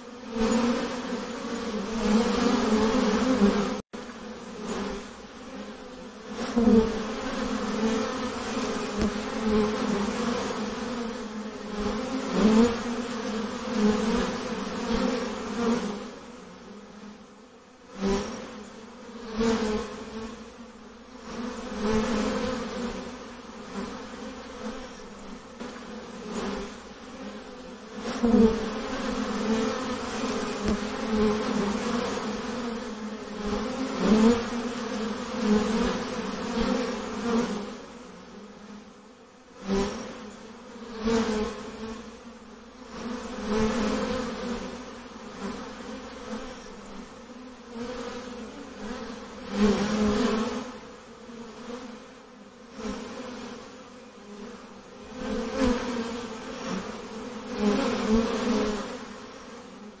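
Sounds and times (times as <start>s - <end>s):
bees buzzing: 0.0s - 60.0s.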